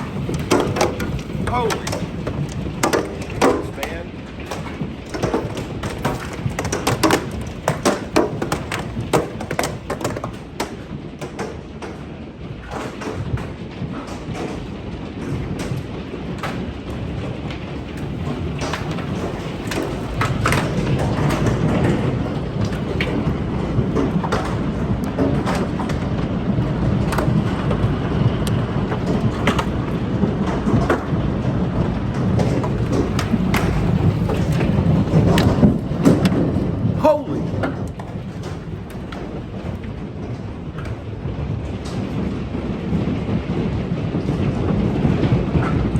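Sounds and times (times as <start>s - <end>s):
hailstones pelting hard surfaces: 0.0s - 45.9s
rush of falling ice and rain: 0.0s - 45.9s.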